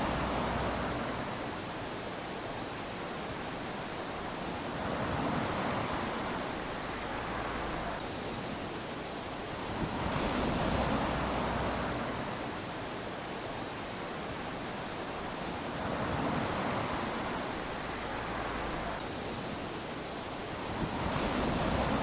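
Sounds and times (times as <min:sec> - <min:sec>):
small waves lapping on beach: 0:00.0 - 0:22.0.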